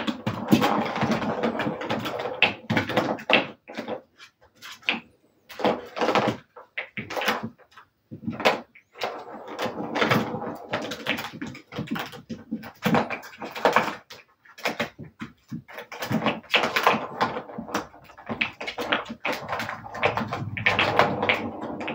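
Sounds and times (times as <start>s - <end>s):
plastic balls clattering on track: 0.0s - 21.9s.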